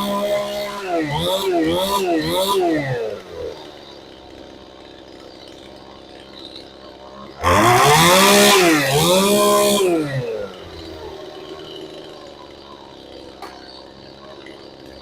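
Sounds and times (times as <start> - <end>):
chainsaw engine idling and revving: 0.0 - 15.0.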